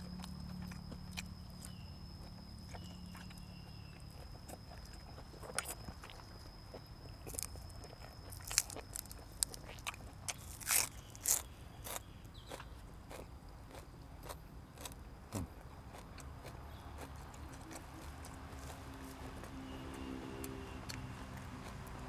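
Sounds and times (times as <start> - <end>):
chewing food with crunches: 0.0 - 22.0.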